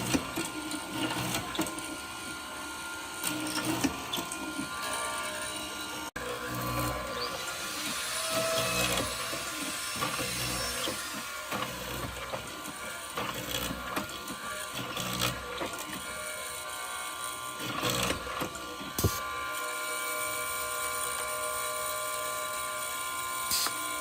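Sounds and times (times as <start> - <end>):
small power tool motor whine: 0.0 - 24.0.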